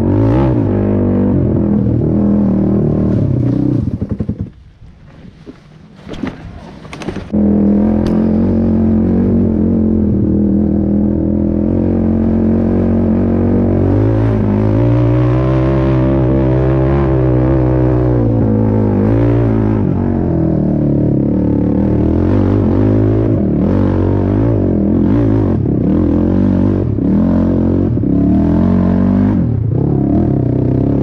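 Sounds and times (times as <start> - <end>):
quad engine running under load: 0.0 - 4.7, 6.9 - 31.0.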